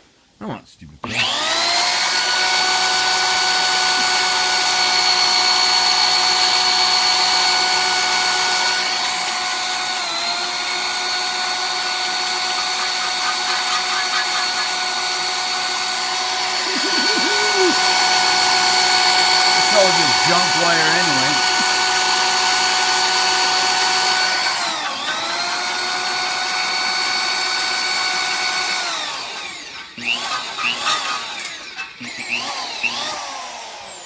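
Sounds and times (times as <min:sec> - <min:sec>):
electric drill whining: 0:01.1 - 0:20.5, 0:21.1 - 0:34.0.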